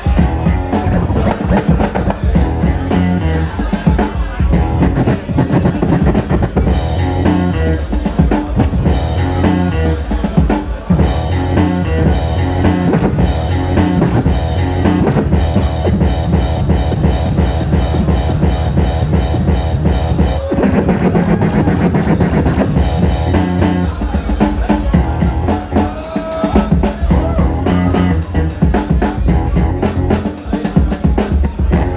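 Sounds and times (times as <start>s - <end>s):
turntable scratching: 0.0s - 25.9s
funk breakbeat with drums and guitar: 0.0s - 31.9s.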